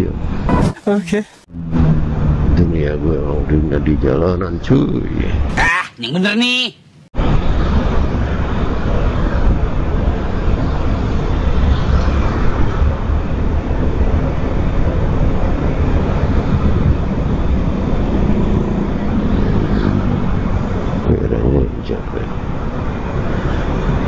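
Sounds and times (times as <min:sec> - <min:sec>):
wind rush and road noise: 0:00.0 - 0:05.6, 0:07.1 - 0:24.0.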